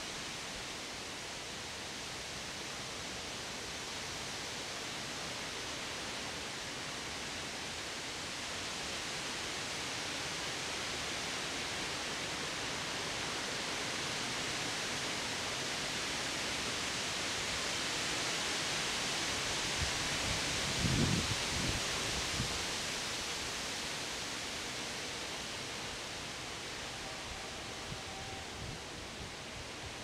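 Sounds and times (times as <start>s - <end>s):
wind rushing through trees: 5.2s - 30.0s.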